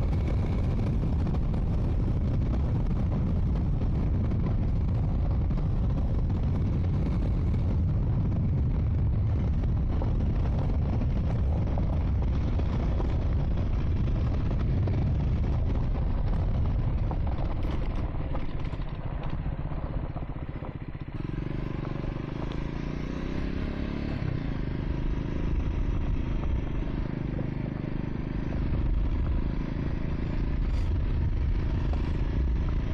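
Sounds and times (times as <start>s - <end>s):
motorcycle engine running: 0.0s - 32.9s
rough road noise: 0.0s - 32.9s.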